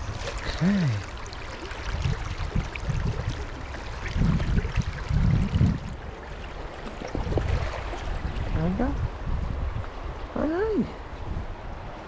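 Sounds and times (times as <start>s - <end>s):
fast river current rushing: 0.0s - 12.0s
low gurgling water swells: 0.0s - 12.0s.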